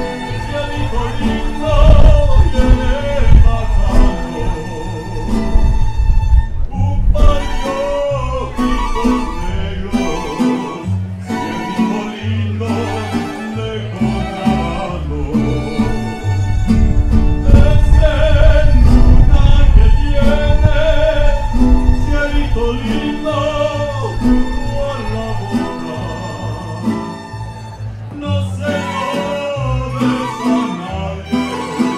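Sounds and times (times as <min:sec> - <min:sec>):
plucked bass line: 0:00.0 - 0:31.9
strummed guitars: 0:00.0 - 0:31.9
violins playing melody: 0:00.0 - 0:31.9.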